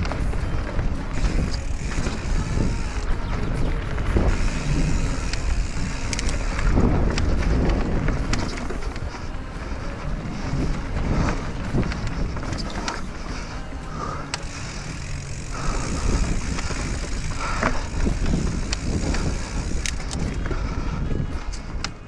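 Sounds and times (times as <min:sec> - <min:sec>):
tyres rolling over dirt and stones: 0:00.0 - 0:21.8
bike rattling over bumps: 0:00.0 - 0:22.0
wind buffeting microphone: 0:00.0 - 0:22.0.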